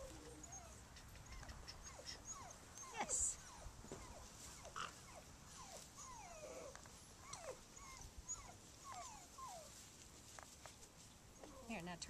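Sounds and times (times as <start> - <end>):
puppies whining: 0.0 - 9.8.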